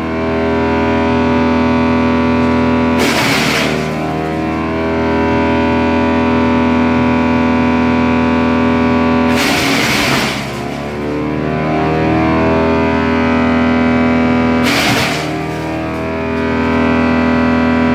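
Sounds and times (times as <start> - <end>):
wood chipper whining: 0.0 - 17.9.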